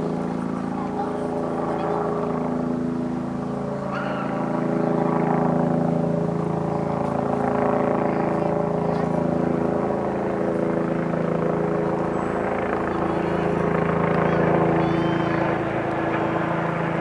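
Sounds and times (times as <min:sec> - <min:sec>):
high-speed train rumbling and humming: 0:00.0 - 0:17.0.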